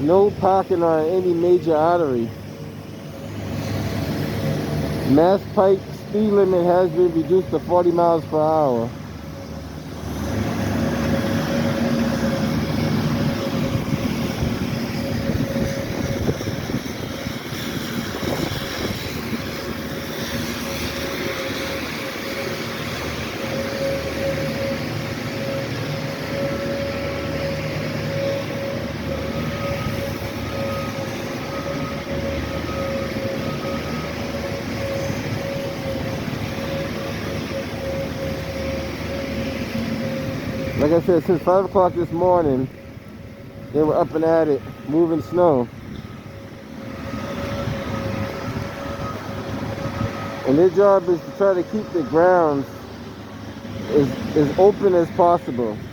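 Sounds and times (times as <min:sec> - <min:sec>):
machinery engine running: 0:00.0 - 0:55.9.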